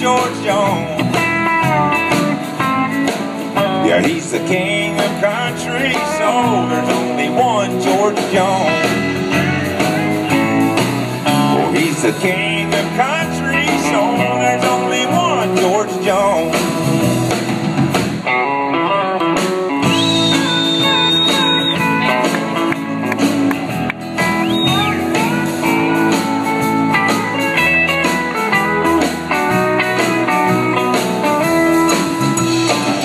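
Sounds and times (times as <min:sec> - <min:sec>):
acoustic guitar: 0:00.0 - 0:33.0
drums: 0:00.0 - 0:33.0.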